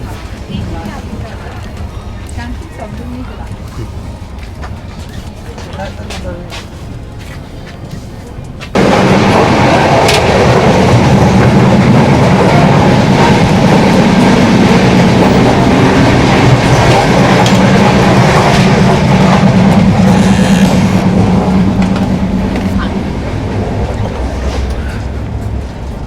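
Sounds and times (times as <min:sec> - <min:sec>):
train wheels rumbling and rattling: 0:00.0 - 0:26.0.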